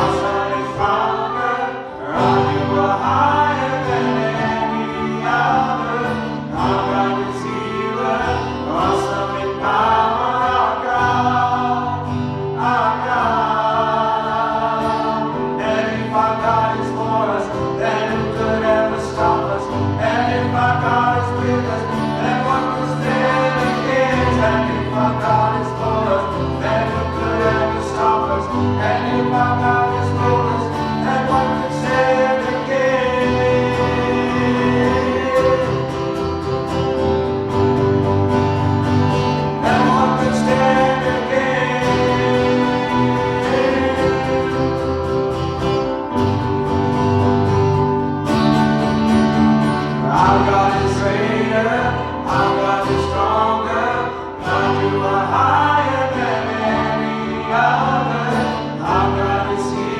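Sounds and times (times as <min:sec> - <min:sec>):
instrumental accompaniment with bass: 0:00.0 - 0:59.9
voices singing gospel song: 0:00.0 - 0:59.9.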